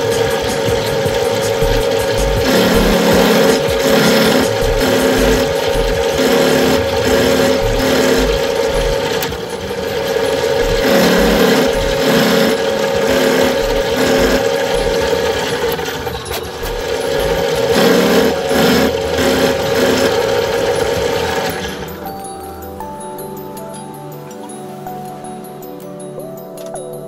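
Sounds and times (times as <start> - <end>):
end mill cutting metal: 0.0 - 22.1
milling machine spindle whine: 0.0 - 22.2.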